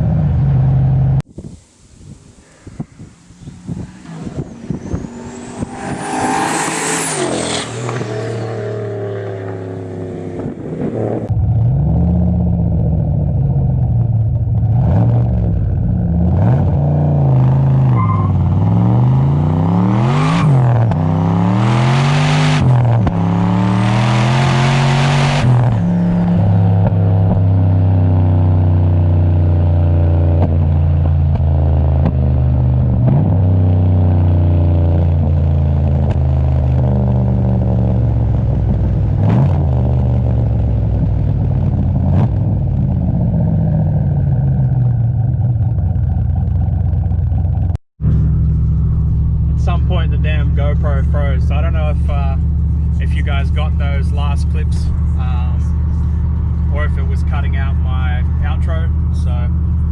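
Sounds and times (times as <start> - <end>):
car engine revving and idling: 2.4 - 59.9.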